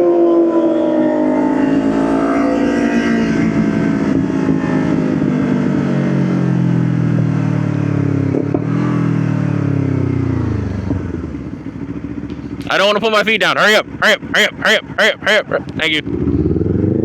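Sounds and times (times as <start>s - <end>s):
motorcycle engine decelerating: 0.0s - 17.0s.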